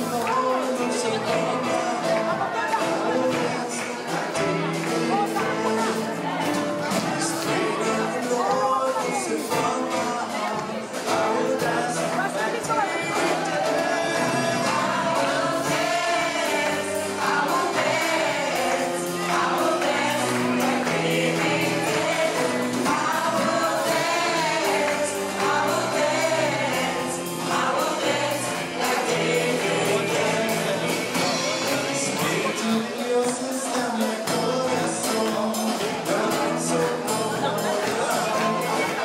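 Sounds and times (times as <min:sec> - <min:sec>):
gospel choir singing: 0:00.0 - 0:39.0
instrumental backing: 0:00.0 - 0:39.0.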